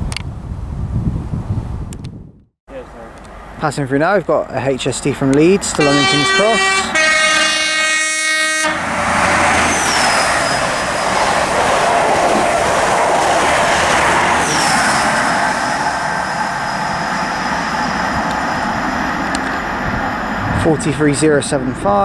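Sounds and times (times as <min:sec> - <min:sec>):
diesel train passing at speed: 0:02.7 - 0:22.0.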